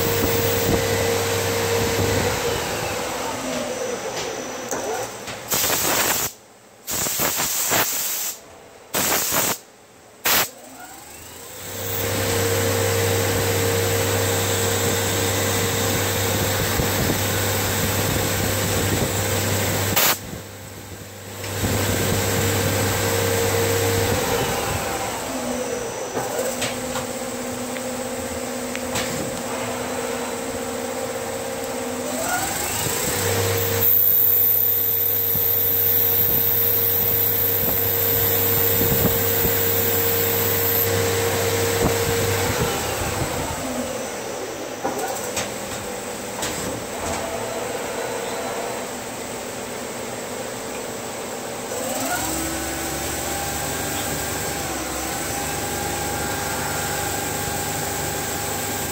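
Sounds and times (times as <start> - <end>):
lathe machine hum: 0.0 - 4.8, 11.0 - 58.9.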